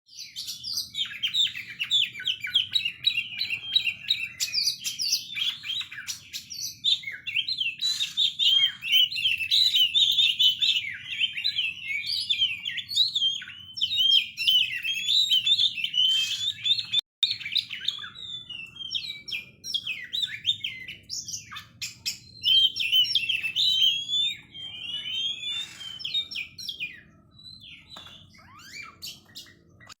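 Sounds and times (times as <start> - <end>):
bird singing varied trills: 0.1 - 30.0.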